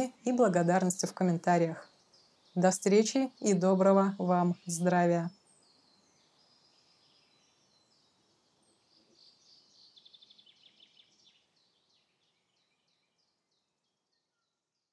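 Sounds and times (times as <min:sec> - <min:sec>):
small birds chirping: 0:00.0 - 0:14.9
bird trill: 0:00.6 - 0:13.4.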